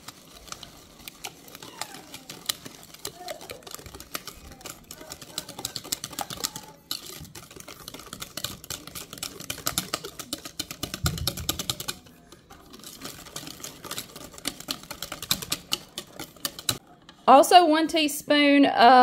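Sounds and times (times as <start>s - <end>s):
wire whisk clicking against bowl: 0.4s - 16.8s.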